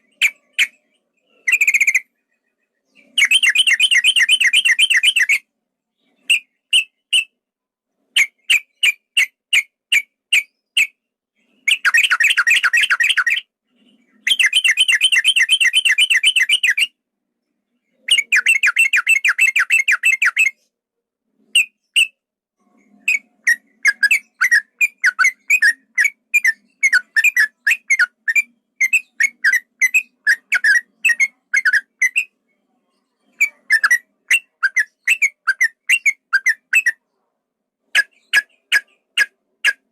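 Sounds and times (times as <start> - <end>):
bird singing rolling trills: 0.0 - 7.4, 8.2 - 20.7, 21.5 - 37.2.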